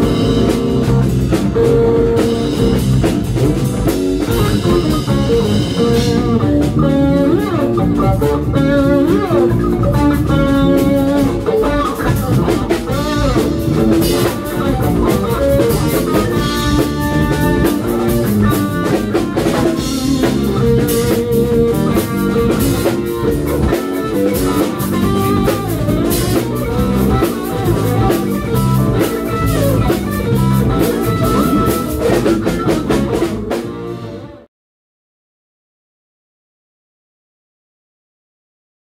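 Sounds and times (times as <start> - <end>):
drum kit: 0.0 - 34.5
electric bass: 0.0 - 34.5
electric guitar: 0.0 - 34.5.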